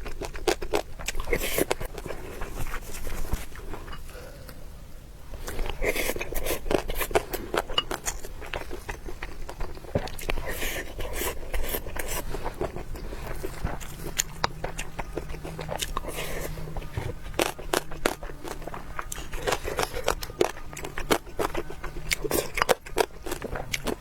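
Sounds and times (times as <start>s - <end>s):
mouth chewing with wet smacks: 0.0s - 4.0s, 5.4s - 24.0s.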